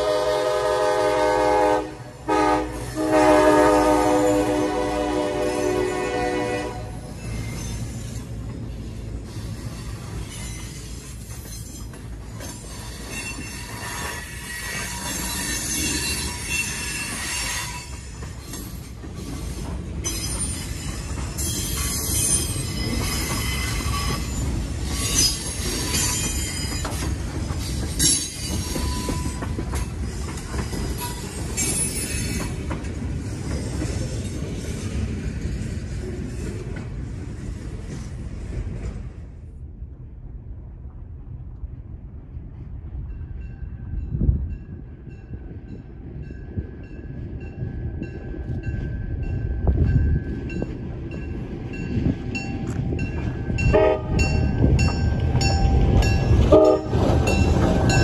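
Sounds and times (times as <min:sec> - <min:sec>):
freight cars rumbling on rail: 0:00.0 - 0:58.0.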